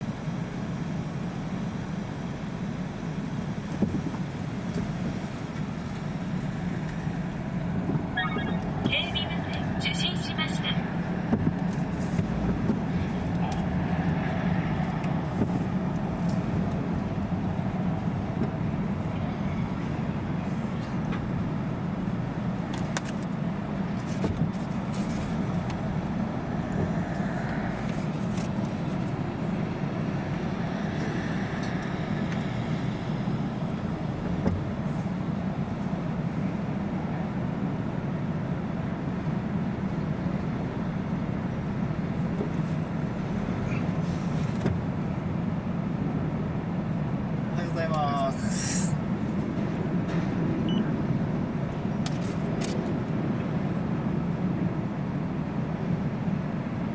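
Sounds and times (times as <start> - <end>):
car engine and road drone: 0.0 - 56.9.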